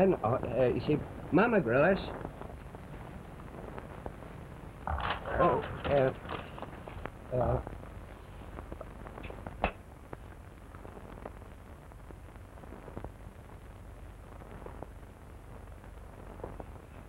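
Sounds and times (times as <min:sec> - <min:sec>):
film soundtrack crackle and pops: 0:00.0 - 0:17.0
steady low hum: 0:00.0 - 0:17.0.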